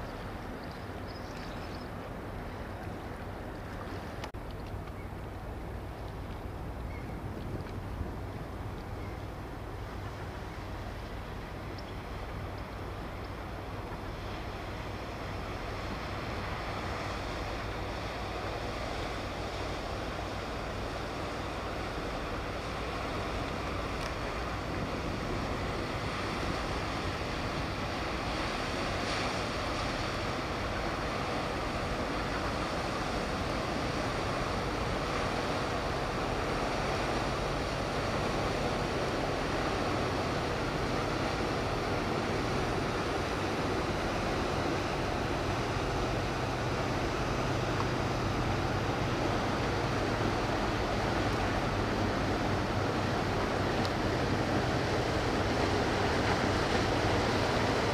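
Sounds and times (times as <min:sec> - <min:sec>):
water noise: 0:00.0 - 0:57.9
wind: 0:00.0 - 0:57.9
ferry engine drone: 0:09.1 - 0:57.9.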